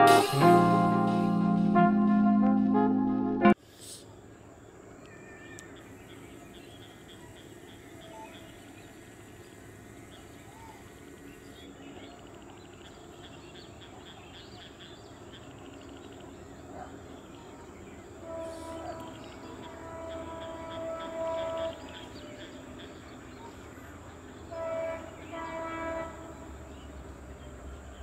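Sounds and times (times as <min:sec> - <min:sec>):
birds chirping: 0:04.1 - 0:28.0.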